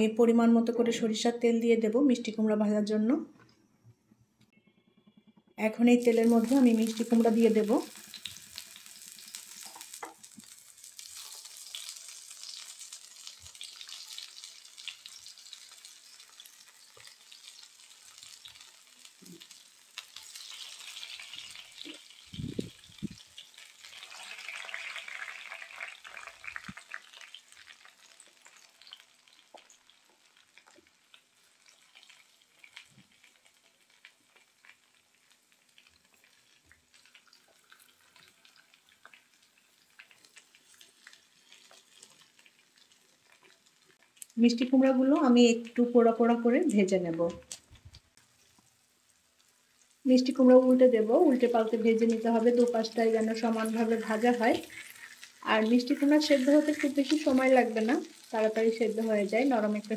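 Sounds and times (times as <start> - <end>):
pumpkin sizzling in hot oil: 5.6 - 59.9.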